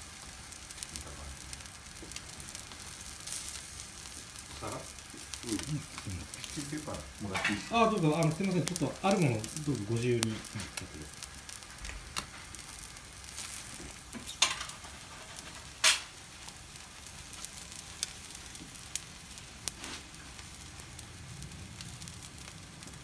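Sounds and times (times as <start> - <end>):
charcoal crackling and popping: 0.0 - 23.0
meat sizzling over charcoal: 0.0 - 23.0.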